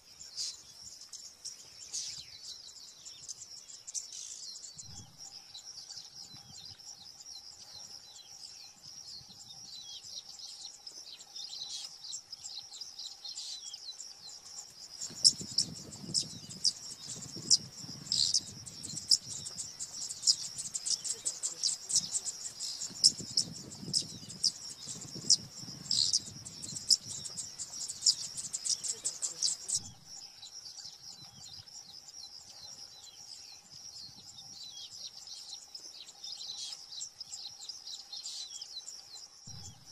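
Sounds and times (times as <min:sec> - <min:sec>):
bird chirping: 0:00.0 - 0:39.9
insect drone: 0:00.0 - 0:39.9.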